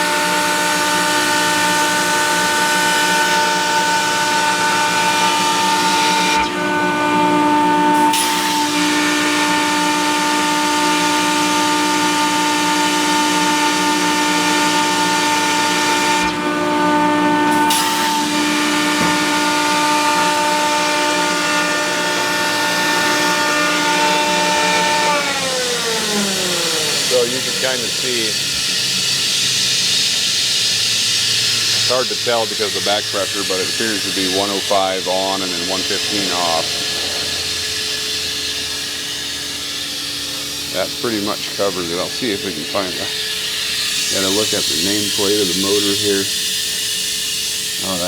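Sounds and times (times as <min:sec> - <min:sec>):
air compressor whine: 0:00.0 - 0:48.0
compressor hiss: 0:00.0 - 0:48.0.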